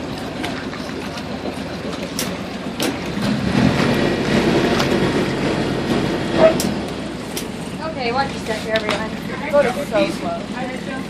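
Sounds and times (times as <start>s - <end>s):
ferry engine rumble: 0.0s - 11.0s
water and wind noise: 0.0s - 11.0s.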